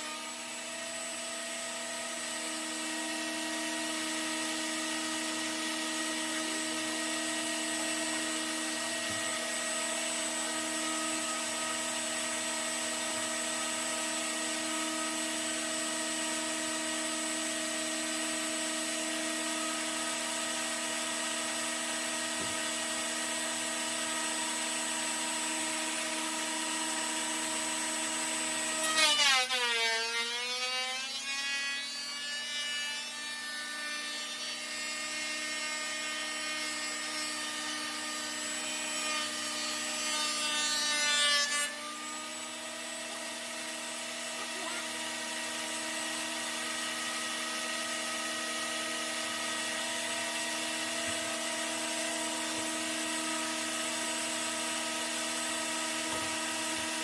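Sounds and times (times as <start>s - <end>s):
thickness planer motor whine: 0.0s - 57.0s.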